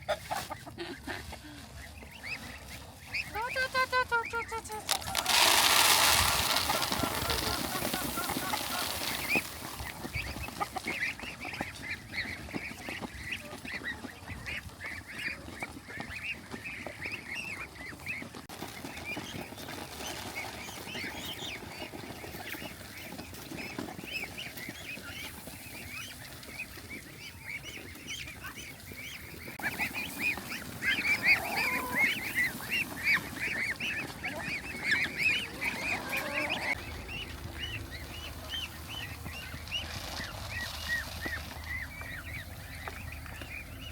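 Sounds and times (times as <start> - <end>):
poultry flock calling: 0.0 - 43.9.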